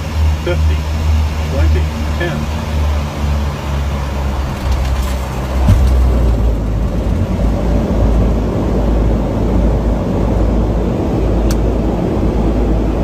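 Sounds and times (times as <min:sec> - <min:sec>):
aircraft rumble on runway: 0:00.0 - 0:13.0.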